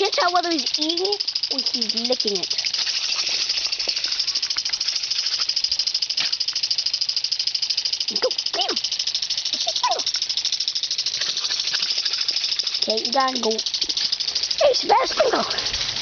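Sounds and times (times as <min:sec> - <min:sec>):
lawn sprinkler spraying: 0:00.0 - 0:16.0.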